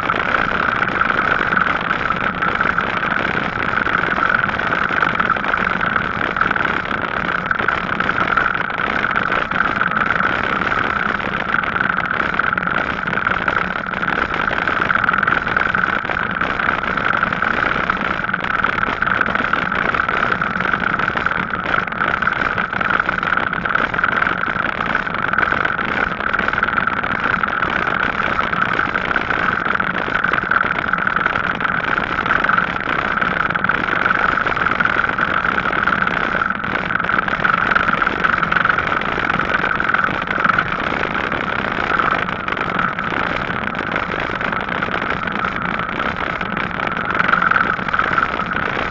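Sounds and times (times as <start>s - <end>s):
electric bicycle riding on tarmac: 0.0s - 48.9s
mid-pitched whine: 0.0s - 48.9s.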